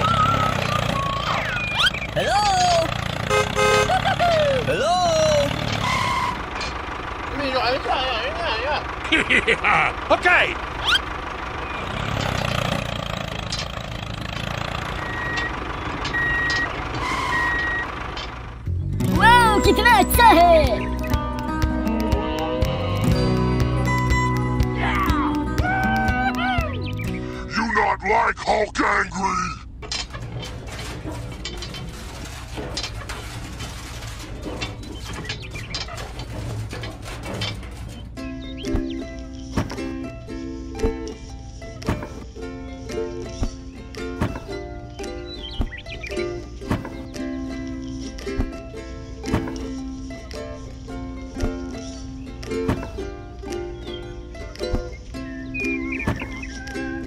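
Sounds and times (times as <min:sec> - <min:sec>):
vehicle engine rumble: 0:00.0 - 0:57.0.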